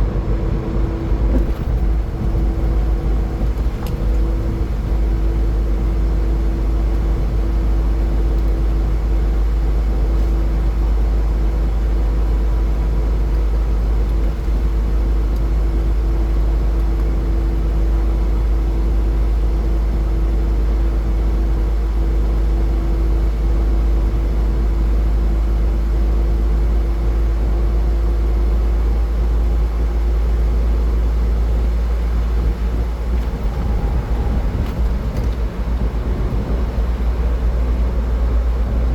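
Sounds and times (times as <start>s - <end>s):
constant hum: 0.0s - 38.9s
road and tyre noise: 0.0s - 38.9s.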